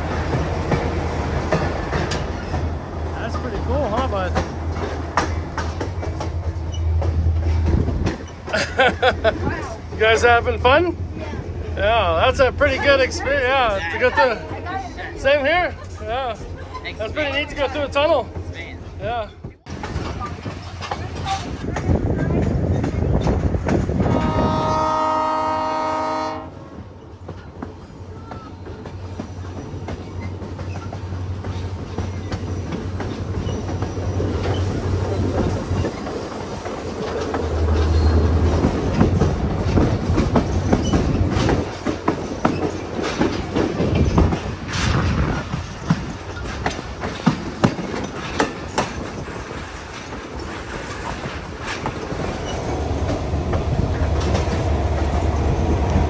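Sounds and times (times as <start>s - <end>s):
train low rumble: 0.0s - 56.0s
wheels clacking over rail joints: 0.0s - 56.0s.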